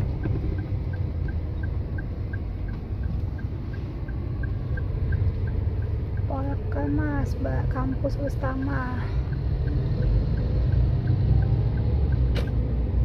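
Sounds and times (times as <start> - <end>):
faint high-pitched ticking: 0.0 - 12.3
car interior road rumble: 0.0 - 13.0.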